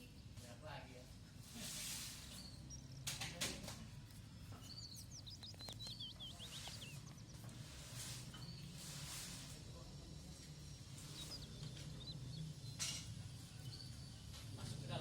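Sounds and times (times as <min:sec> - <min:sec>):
small bird chirping: 0:01.9 - 0:15.0.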